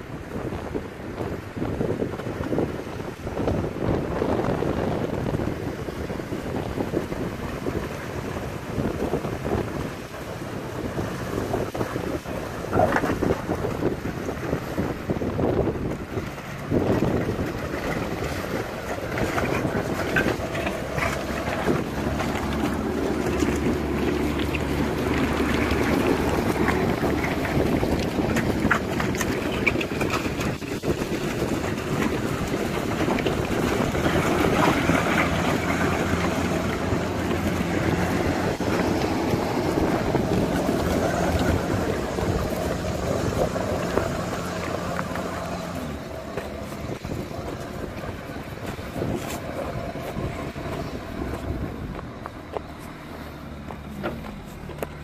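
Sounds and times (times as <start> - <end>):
diesel engine running: 0.0 - 55.0
wind noise on microphone: 0.0 - 55.0.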